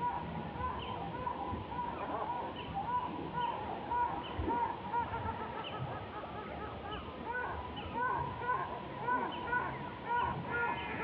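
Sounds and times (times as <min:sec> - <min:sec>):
monkeys cooing in chorus: 0:00.0 - 0:11.0.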